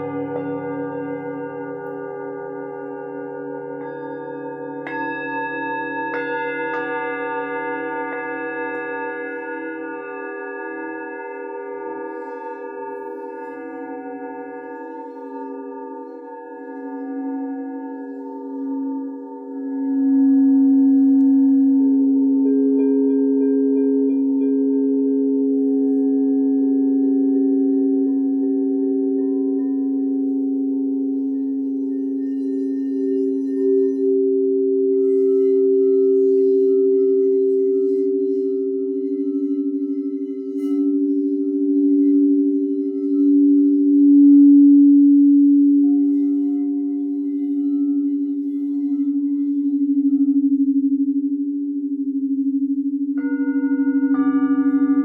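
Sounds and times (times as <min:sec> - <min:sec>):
higher singing bowl tone: 0:00.0 - 0:55.0
low singing bowl tone: 0:00.0 - 0:55.0.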